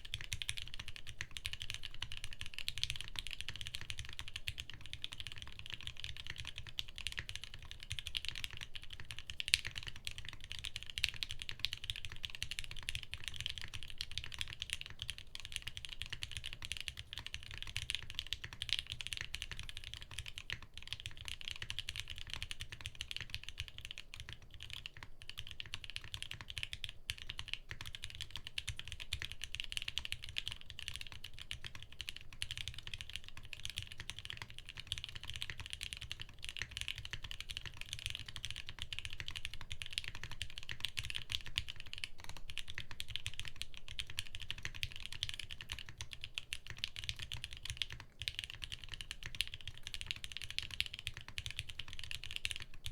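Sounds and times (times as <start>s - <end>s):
mechanical keyboard typing: 0.0s - 52.9s.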